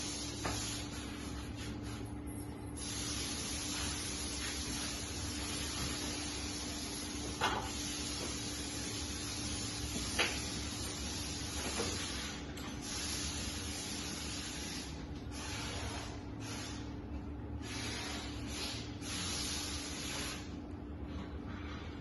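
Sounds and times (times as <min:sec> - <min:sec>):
hissing spray: 0:00.0 - 0:02.0, 0:02.8 - 0:16.8, 0:17.6 - 0:20.5.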